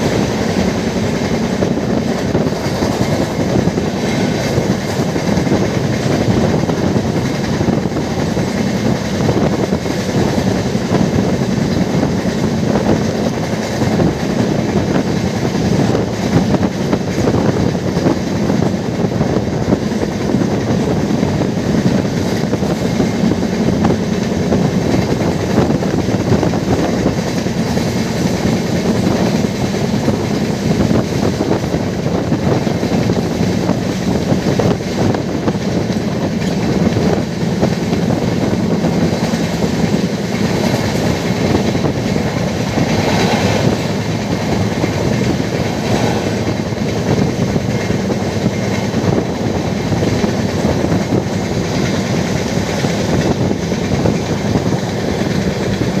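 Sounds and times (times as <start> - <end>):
train wheels rumbling and clattering: 0.0 - 56.0.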